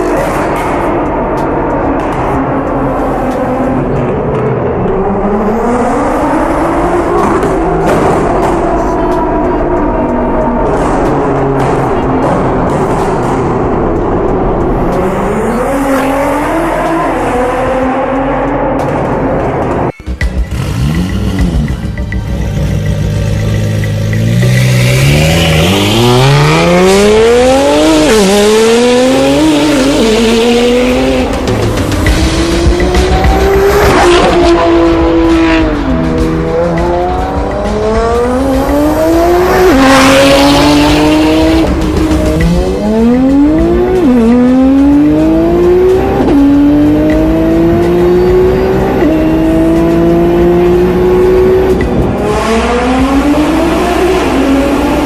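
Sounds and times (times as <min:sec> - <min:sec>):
sports car engine accelerating: 0:00.0 - 0:55.0.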